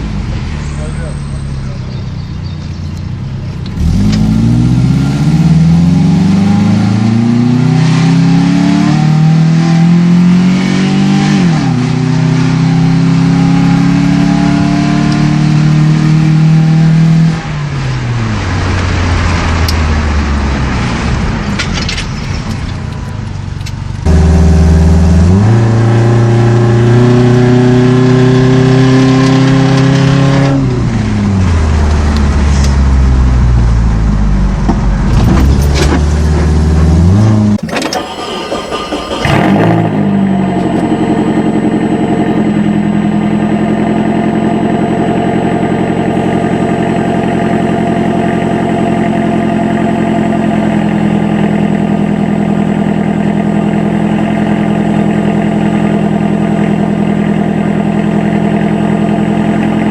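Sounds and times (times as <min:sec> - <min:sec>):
car engine accelerating: 0:00.0 - 0:21.6, 0:23.6 - 0:59.9.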